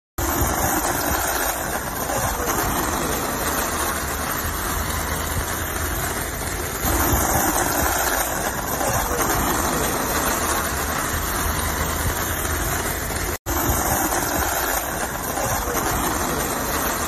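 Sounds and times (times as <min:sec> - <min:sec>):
road traffic rumble: 0:00.2 - 0:17.0.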